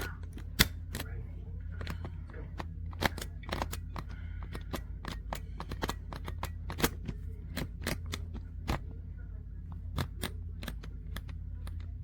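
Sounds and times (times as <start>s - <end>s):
lock dials clicking: 0.0s - 1.2s, 1.8s - 9.0s, 9.7s - 12.0s
steady low hum: 0.0s - 12.0s.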